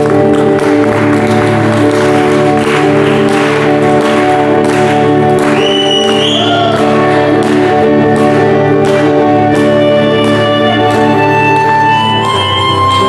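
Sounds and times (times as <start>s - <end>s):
live instrumental music: 0.0s - 13.0s.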